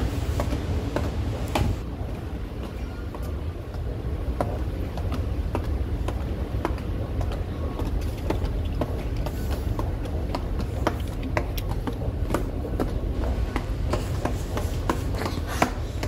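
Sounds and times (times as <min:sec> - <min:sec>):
footsteps on stone stairs: 0:00.0 - 0:16.0
steady low rumble: 0:00.0 - 0:16.0.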